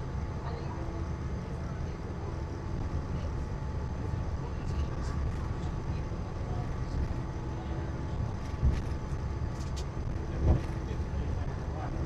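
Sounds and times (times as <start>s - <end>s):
monorail train rumble: 0.0s - 12.0s.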